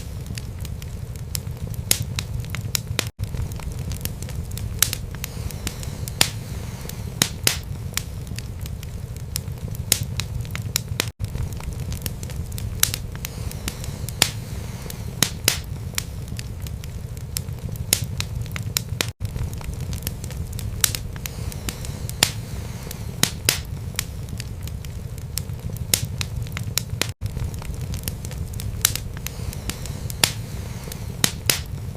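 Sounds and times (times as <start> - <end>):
low rumble of flames: 0.0 - 31.9
wood fire crackles and pops: 0.0 - 31.9.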